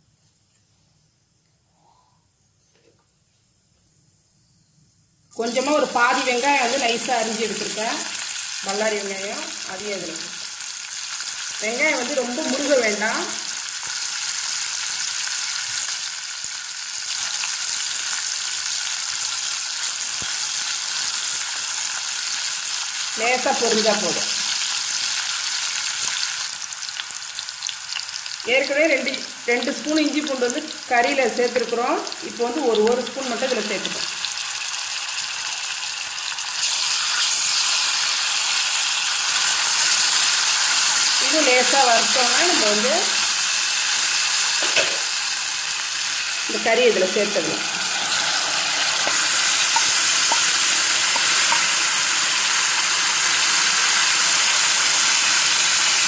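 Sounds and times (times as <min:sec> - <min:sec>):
onions sizzling in oil: 0:05.3 - 0:56.0.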